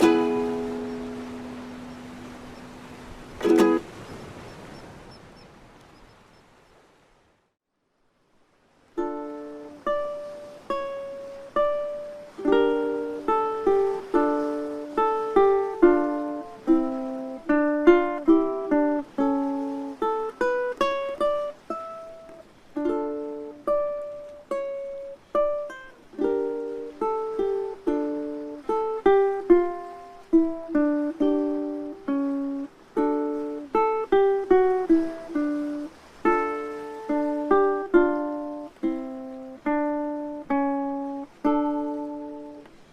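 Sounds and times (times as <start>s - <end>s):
ukulele music: 0.0s - 3.9s, 8.9s - 42.9s.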